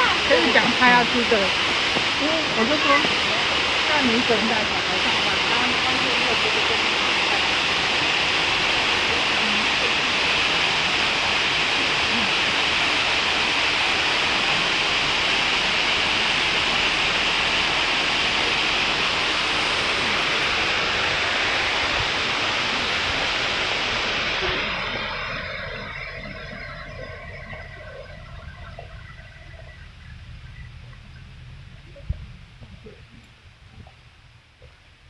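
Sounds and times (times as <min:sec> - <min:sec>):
waterfall rushing: 0:00.0 - 0:33.3.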